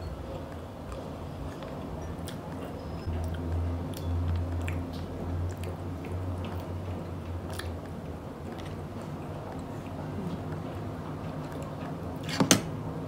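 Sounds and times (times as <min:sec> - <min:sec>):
low hum: 0:00.0 - 0:13.0
chewing french fries: 0:00.3 - 0:12.3.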